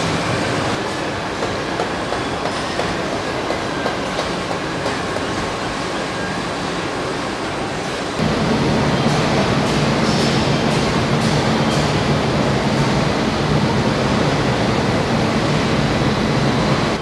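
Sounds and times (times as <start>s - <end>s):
factory machinery din: 0.0s - 17.0s.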